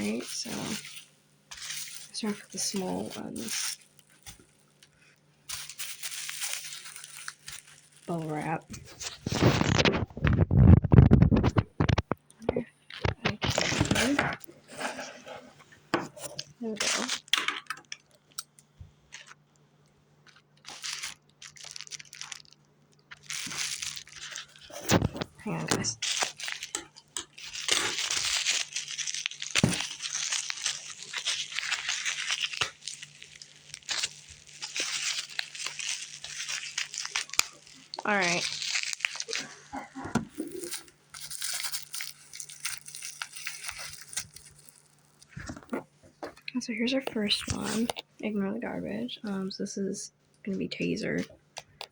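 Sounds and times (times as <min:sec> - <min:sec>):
bubble wrap crinkling: 0:00.0 - 0:49.6.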